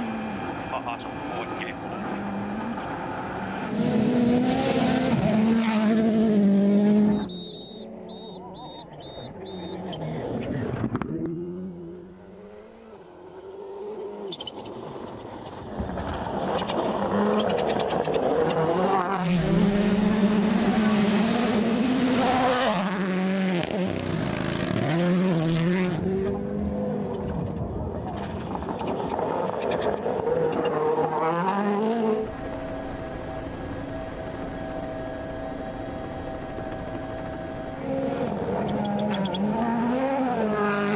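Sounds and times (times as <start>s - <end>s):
rally car engines at full throttle: 0.0s - 40.9s.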